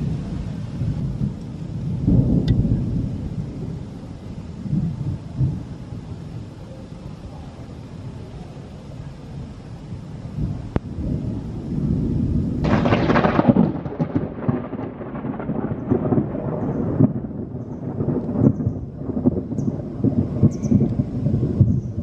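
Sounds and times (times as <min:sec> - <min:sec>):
rolling thunder: 0:00.0 - 0:08.5, 0:09.2 - 0:22.0.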